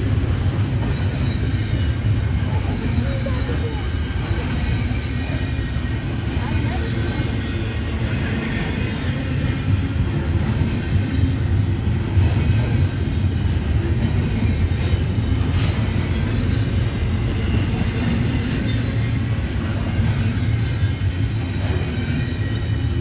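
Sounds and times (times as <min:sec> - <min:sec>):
train rumbling by: 0:00.0 - 0:23.0.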